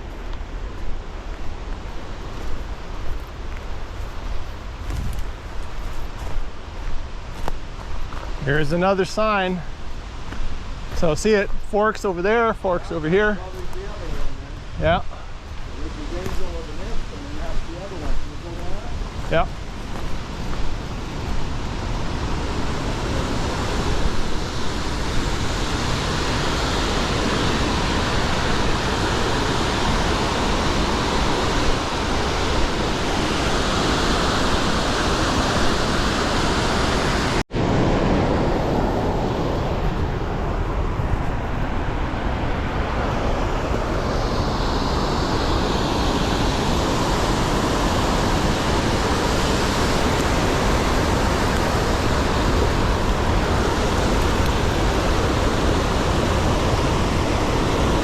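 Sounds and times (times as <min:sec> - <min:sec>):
creek water rushing: 0:00.0 - 0:58.0.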